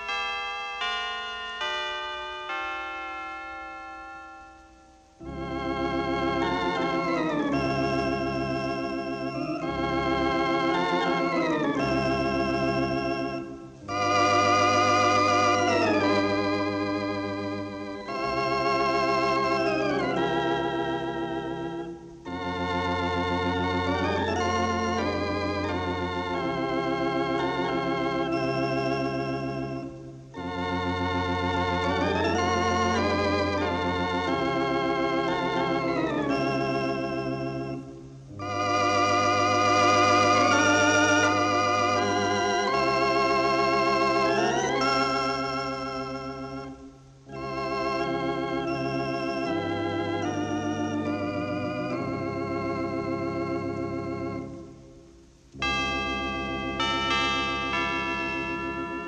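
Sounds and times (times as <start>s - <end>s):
slow organ music: 0.0s - 59.0s.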